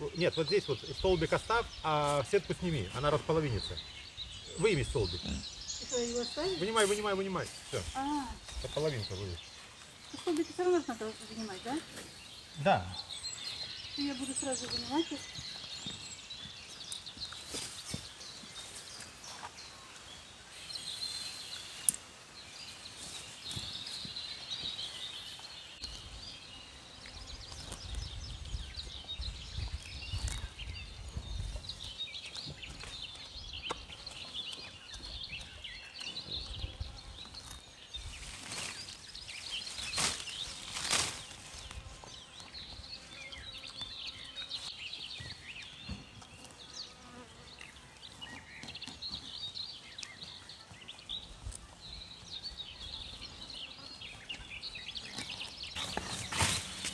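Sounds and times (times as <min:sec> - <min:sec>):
birds and insects chirping: 0:00.0 - 0:56.9.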